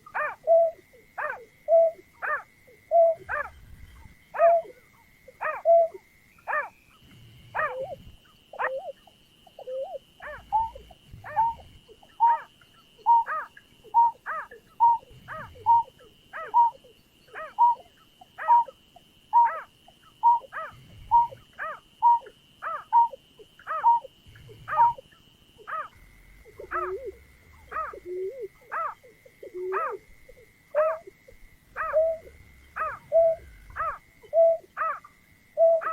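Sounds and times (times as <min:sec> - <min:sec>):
bird hooting calls: 0:00.0 - 0:35.9
faint high whine: 0:00.0 - 0:35.9.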